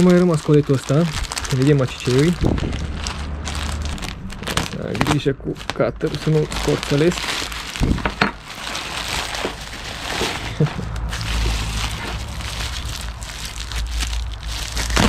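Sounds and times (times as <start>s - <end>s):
packaging rustling and crackling: 0.0s - 15.0s
low hum: 2.3s - 15.0s.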